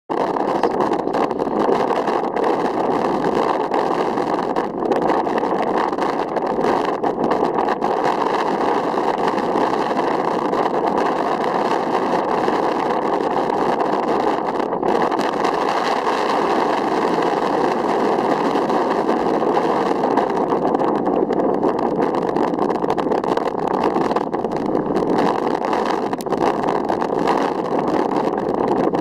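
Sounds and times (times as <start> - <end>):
strong wind blowing: 0.1 - 29.0.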